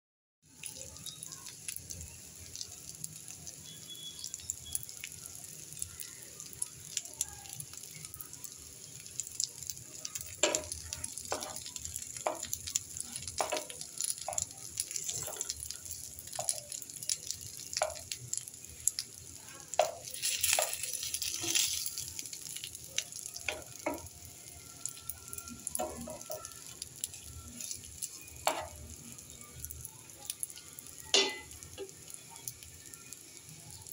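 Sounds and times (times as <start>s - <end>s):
fish sizzling in a pan: 0.4s - 33.9s.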